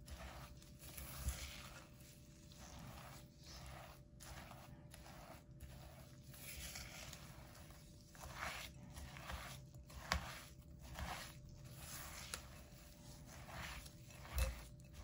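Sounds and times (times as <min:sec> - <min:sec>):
spatula scraping glass bowl: 0:00.0 - 0:15.0.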